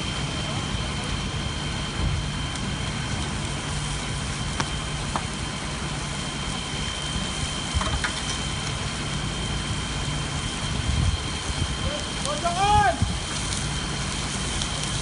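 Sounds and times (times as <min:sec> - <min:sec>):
fire rushing and crackling: 0:00.0 - 0:15.0
low steady drone: 0:00.0 - 0:15.0.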